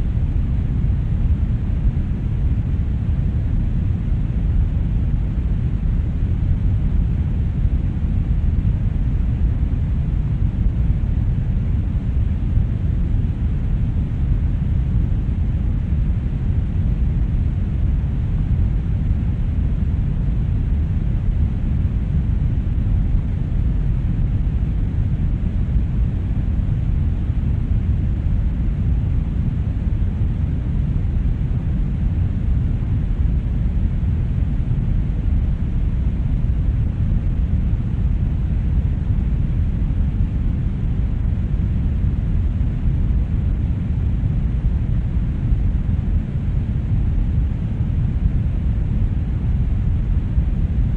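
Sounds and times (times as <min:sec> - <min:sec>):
brown noise: 0:00.0 - 0:50.9.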